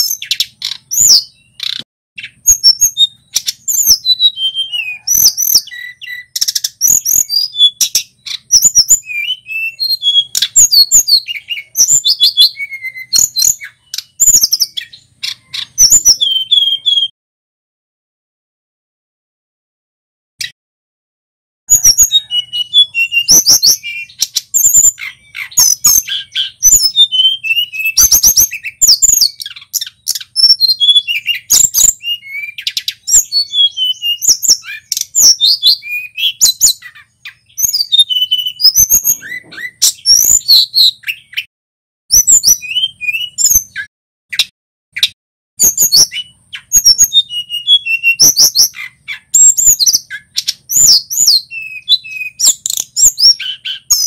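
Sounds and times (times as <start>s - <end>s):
bird singing whistles and chips: 0.0s - 17.1s, 21.7s - 41.5s, 42.1s - 54.0s.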